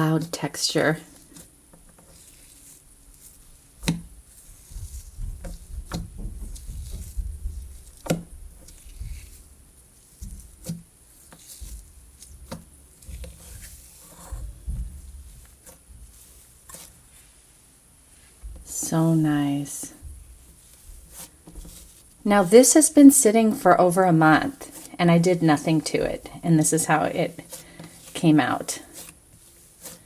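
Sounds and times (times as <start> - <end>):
low rumbling handling noise: 3.5 - 11.0, 11.6 - 28.5.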